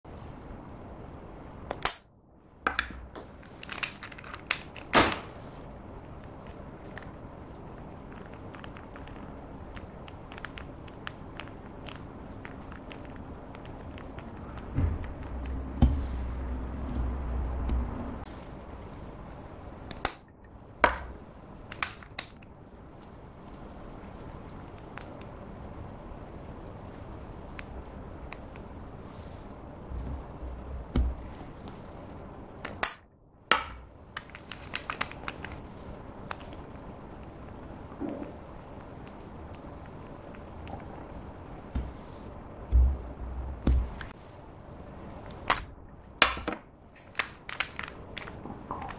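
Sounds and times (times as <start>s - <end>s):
low steady hiss: 0.1s - 48.9s.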